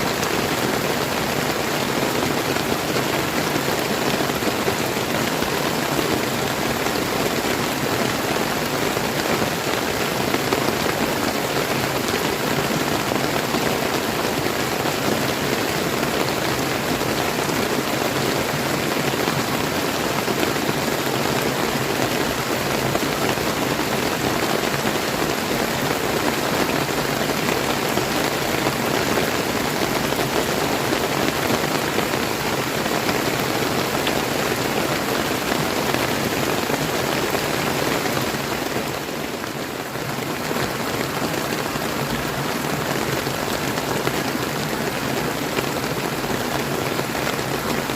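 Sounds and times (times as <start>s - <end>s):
river rushing: 0.0s - 47.9s
steady rain: 0.0s - 47.9s.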